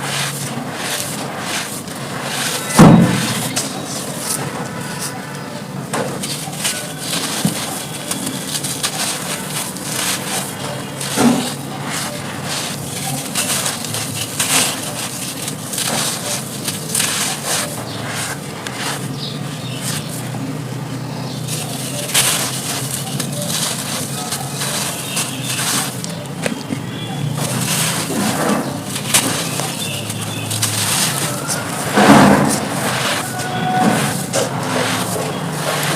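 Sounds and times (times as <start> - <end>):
charcoal crackling and crunching: 0.0 - 35.9.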